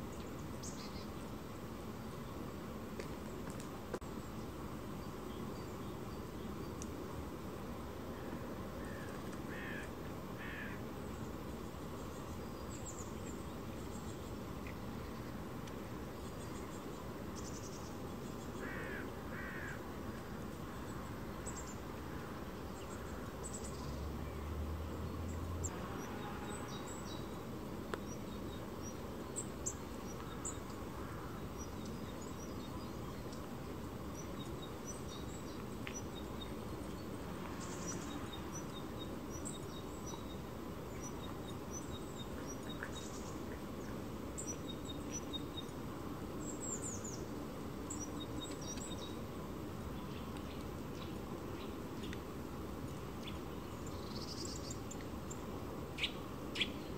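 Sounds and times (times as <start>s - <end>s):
outdoor background hiss: 0.0s - 56.9s
songbirds chirping: 0.0s - 56.9s.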